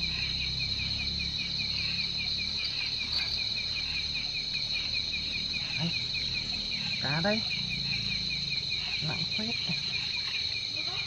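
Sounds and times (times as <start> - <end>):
pulsed cricket chirping: 0.0 - 11.0
steady high insect trill: 0.0 - 11.0.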